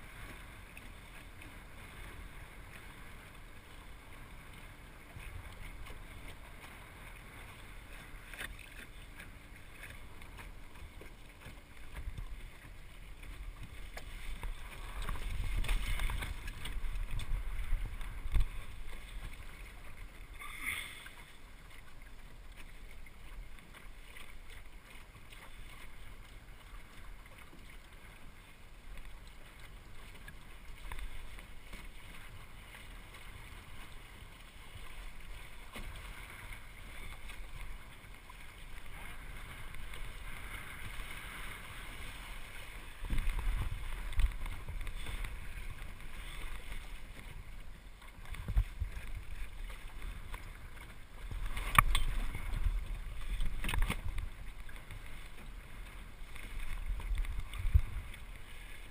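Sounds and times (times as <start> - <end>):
water washing along boat hull: 0.0 - 58.9.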